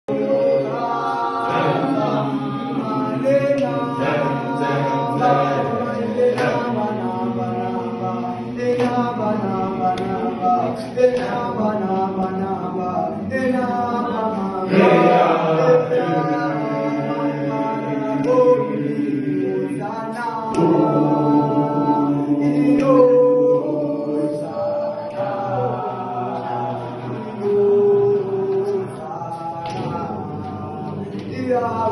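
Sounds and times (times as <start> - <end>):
group singing a cappella: 0.0 - 31.9.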